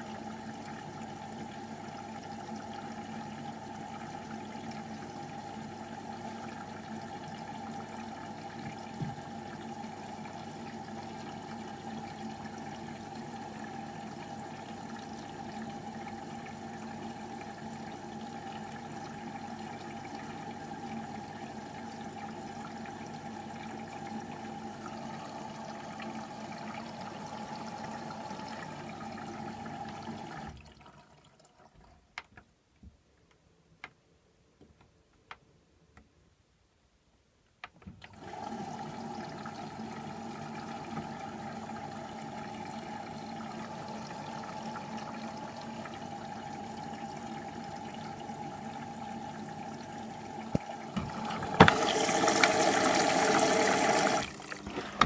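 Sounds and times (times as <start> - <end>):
washing machine filling with water: 0.0 - 32.1, 38.0 - 55.0.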